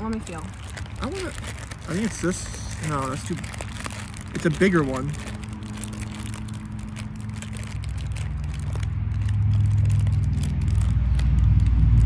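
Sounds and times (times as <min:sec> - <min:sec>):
foil wrapper crinkling: 0:00.0 - 0:12.0
vehicle engine hum: 0:00.0 - 0:12.0.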